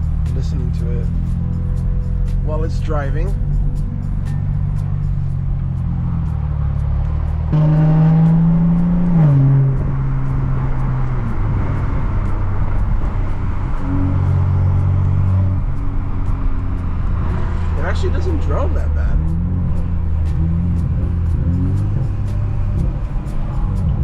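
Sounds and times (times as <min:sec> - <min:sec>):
car exhaust under throttle: 0:00.0 - 0:24.0.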